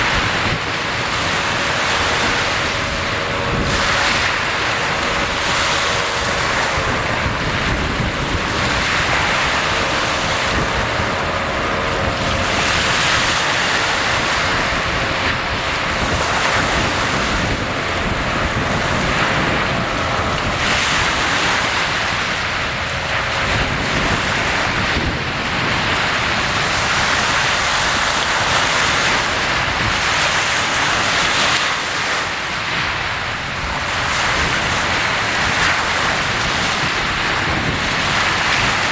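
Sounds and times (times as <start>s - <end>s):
sea waves breaking: 0.0s - 38.9s
wind on microphone: 0.0s - 38.9s.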